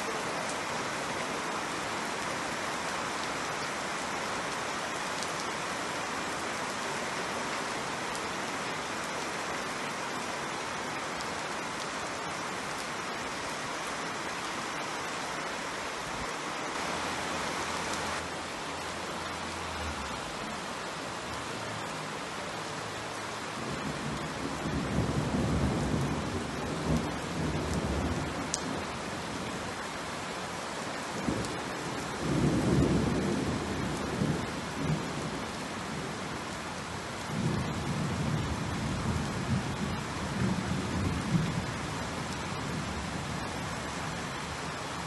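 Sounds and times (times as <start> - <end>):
rain on brick paving: 0.0 - 45.0.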